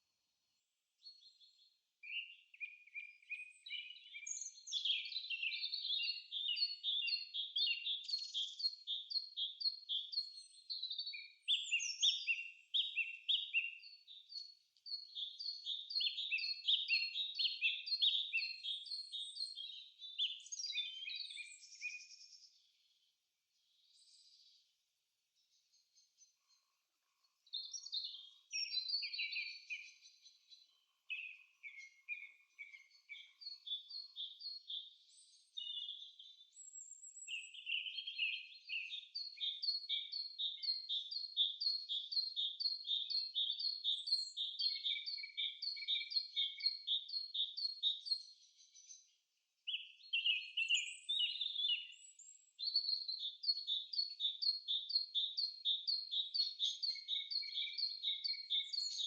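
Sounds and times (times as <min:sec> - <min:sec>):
bird song with high notes: 0:00.5 - 0:59.0.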